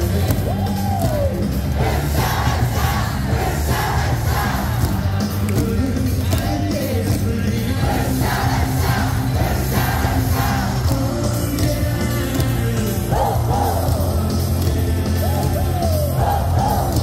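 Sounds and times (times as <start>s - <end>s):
cheer music over loudspeakers: 0.0s - 17.0s
crowd singing and yelling: 0.0s - 17.0s.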